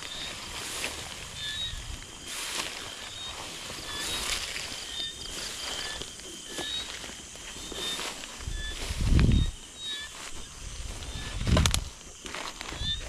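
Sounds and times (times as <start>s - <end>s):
rustling brushes: 0.0s - 13.0s
wind rumbling on microphone: 0.0s - 13.0s.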